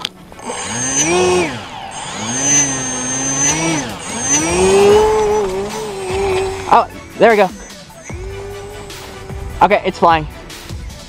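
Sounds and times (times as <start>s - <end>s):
electric motor spinning propeller: 0.0s - 9.7s
thin high whine: 0.4s - 9.4s.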